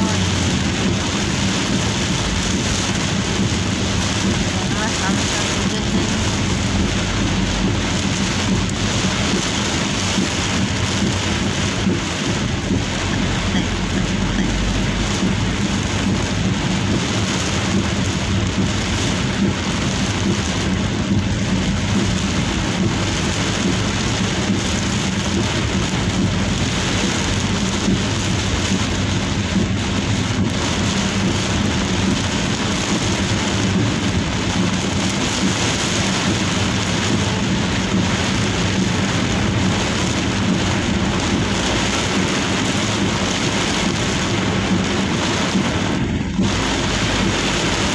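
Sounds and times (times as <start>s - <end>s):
engine hum: 0.0s - 47.9s
heavy rain drumming on car roof: 0.0s - 47.9s
tyres on wet road: 0.0s - 47.9s.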